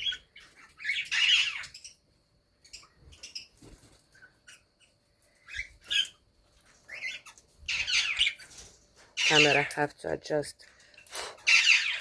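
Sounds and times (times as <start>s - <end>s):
small parrots chirping and squawking: 0.0s - 9.9s, 10.8s - 12.0s.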